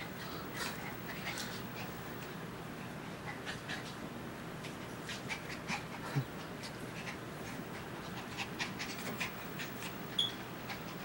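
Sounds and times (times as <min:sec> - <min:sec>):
dogs panting and snuffling: 0:00.1 - 0:11.0.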